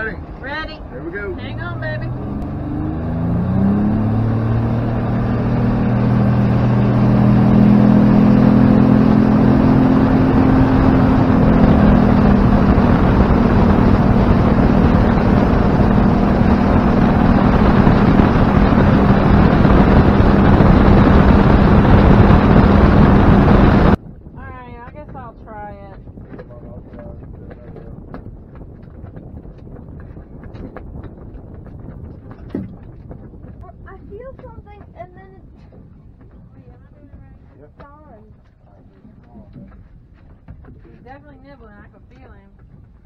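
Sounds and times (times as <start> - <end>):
outboard motor: 0.0 - 43.0
rush of wind and water: 0.0 - 43.0.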